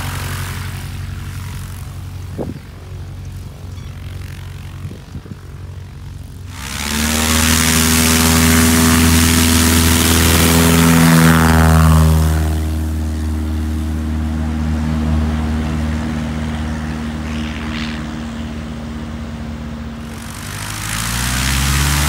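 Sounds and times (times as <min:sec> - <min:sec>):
propeller plane engine: 0:00.0 - 0:22.0.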